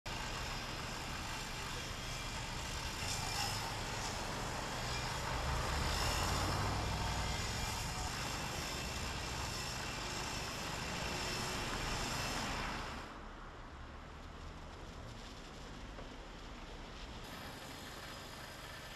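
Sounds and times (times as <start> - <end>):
street noise hiss: 0.1 - 18.9
traffic engine drone: 0.1 - 18.9.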